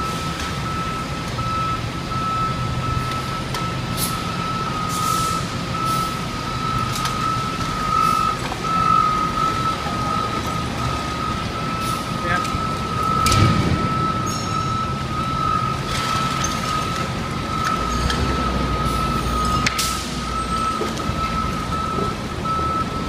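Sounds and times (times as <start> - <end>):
diesel engine rumble: 0.0 - 23.0
reversing alarm tone: 0.0 - 23.0.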